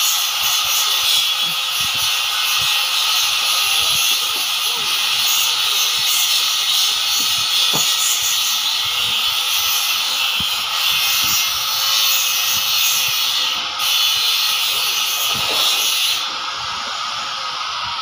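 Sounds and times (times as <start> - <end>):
hissing machine noise: 0.0 - 18.0.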